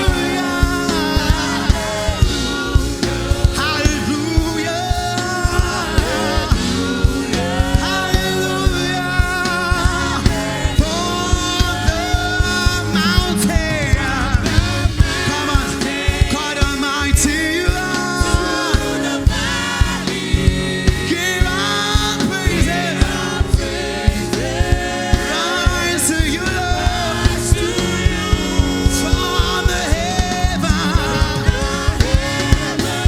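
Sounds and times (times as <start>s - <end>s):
band with steady drumbeat: 0.0s - 33.0s
person singing: 0.0s - 33.0s.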